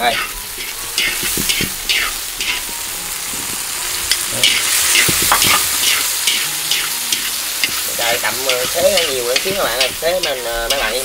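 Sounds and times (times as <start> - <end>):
chopsticks scraping in a wok: 0.0 - 2.7, 4.1 - 11.0
hot oil sizzling in a wok: 0.0 - 11.0.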